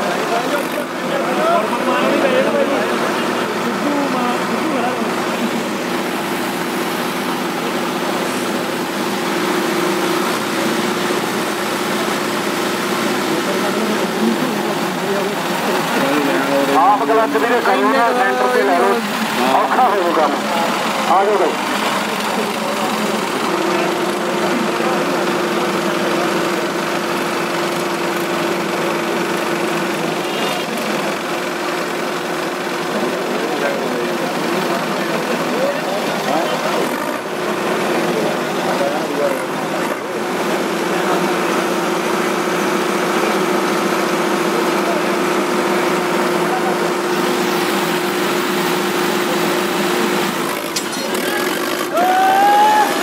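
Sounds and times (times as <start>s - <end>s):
tractor diesel engines idling: 0.0s - 53.0s.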